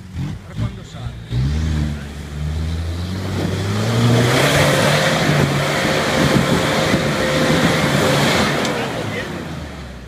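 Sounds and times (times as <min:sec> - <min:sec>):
diesel engine revving under load: 0:00.0 - 0:10.0.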